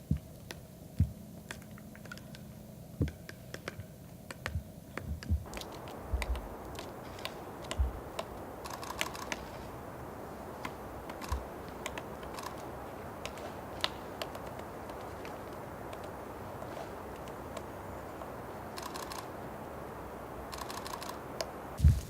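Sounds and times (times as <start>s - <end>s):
steady hiss: 0.0s - 22.0s
woodpecker tapping on bark: 0.1s - 9.7s, 10.5s - 19.4s.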